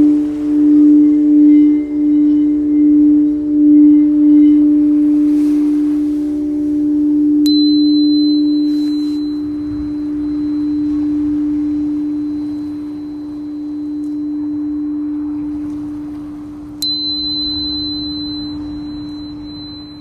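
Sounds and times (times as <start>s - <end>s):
high singing bowl tone: 0.0s - 20.0s
low singing bowl tone: 0.0s - 20.0s.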